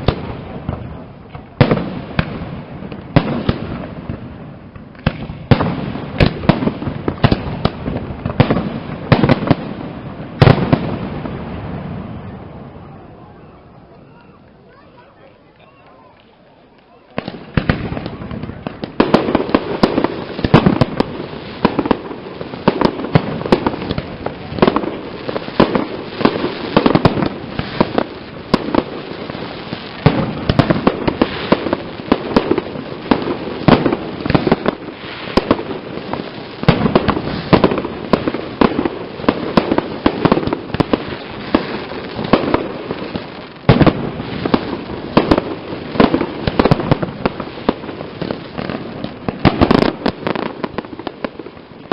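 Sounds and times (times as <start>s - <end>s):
fireworks bangs and crackling bursts: 0.0s - 51.9s.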